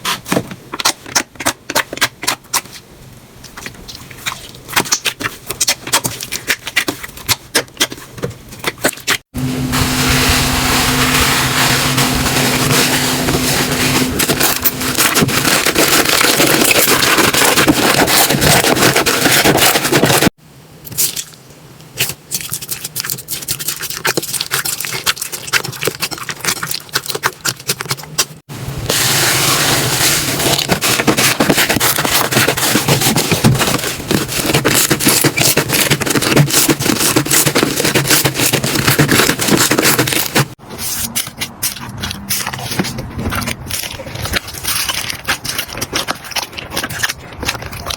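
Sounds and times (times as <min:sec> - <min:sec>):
slime squishing and crackling: 0:03.4 - 0:21.4, 0:22.0 - 0:47.9.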